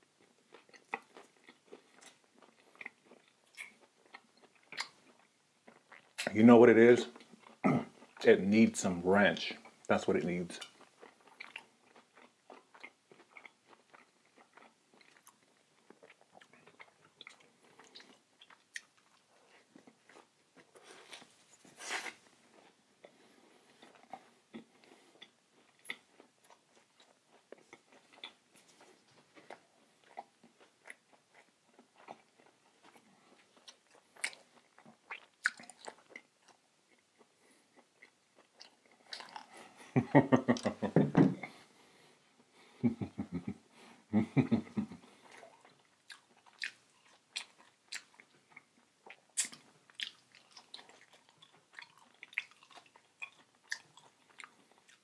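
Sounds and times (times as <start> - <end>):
person chewing food: 0.0 - 6.3, 7.0 - 8.3, 9.4 - 55.0.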